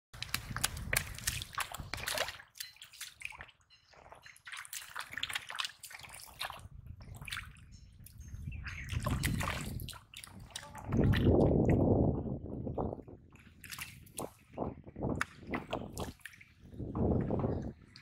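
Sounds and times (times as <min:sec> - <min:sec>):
mud squelching: 0:00.1 - 0:12.0, 0:13.3 - 0:14.6, 0:15.2 - 0:18.0
muddy water splashing: 0:00.1 - 0:18.0.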